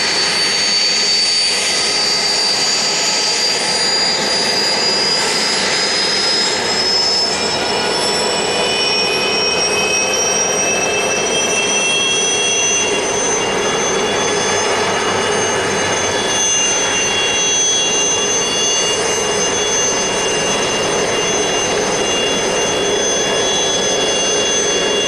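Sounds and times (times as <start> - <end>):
helicopter engine and rotor rush: 0.0 - 25.0
lower turbine whine: 0.0 - 25.0
turbine whine rising: 0.0 - 25.0.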